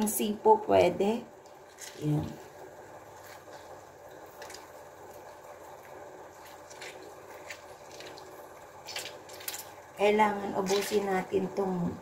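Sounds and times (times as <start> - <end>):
juice dripping: 1.2 - 12.0.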